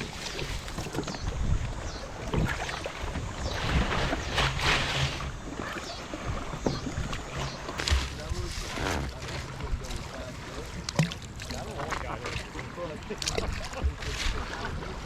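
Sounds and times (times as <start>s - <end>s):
waves splashing at shore: 0.0s - 15.0s
wind buffeting microphone: 0.0s - 15.0s.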